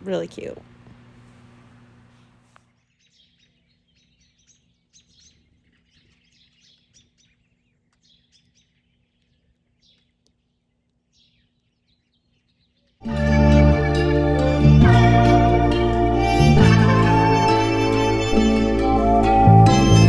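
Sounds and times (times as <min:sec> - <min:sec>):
small songbirds chirping: 0:02.6 - 0:19.5.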